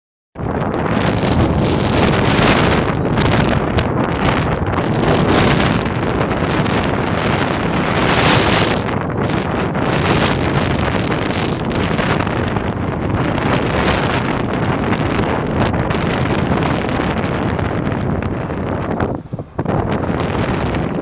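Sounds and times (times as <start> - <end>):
strong wind on microphone: 0.4 - 21.0.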